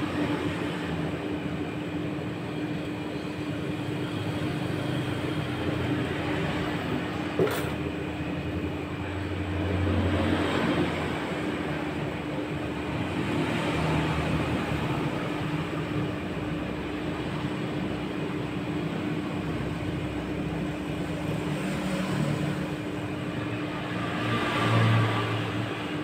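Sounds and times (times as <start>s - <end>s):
refrigeration unit humming: 0.0s - 26.0s.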